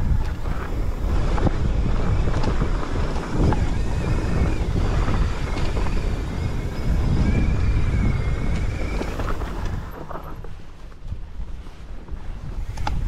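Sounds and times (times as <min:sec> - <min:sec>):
bike rattling over rocks: 0:00.0 - 0:11.2
bike tyres on dirt trail: 0:00.0 - 0:13.0
wind buffeting microphone: 0:00.0 - 0:13.0.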